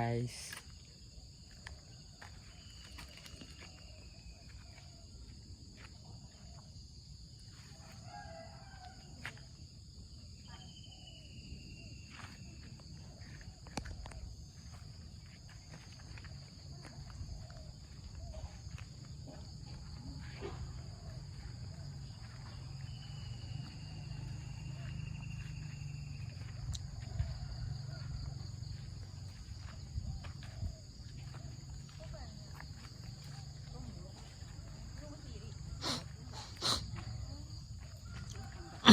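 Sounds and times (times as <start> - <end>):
insect chorus: 0.0 - 38.9.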